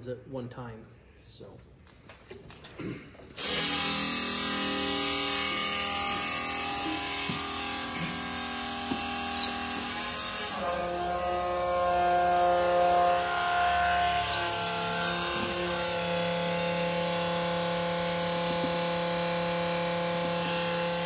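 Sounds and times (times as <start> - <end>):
fuel pump whining: 3.4 - 21.0.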